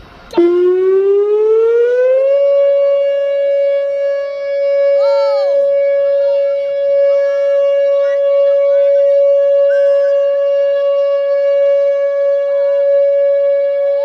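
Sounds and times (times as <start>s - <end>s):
steady warning siren tone: 0.0s - 14.0s
rising and falling siren wails: 0.3s - 14.0s.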